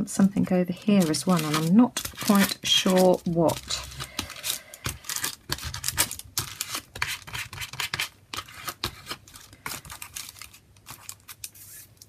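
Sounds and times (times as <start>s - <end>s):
hands handling paper cut-outs: 0.3s - 12.0s.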